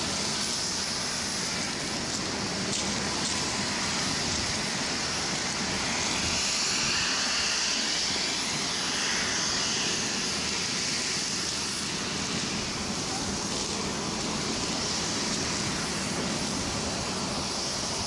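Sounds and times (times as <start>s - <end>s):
aircraft engine passing: 0.0s - 18.0s.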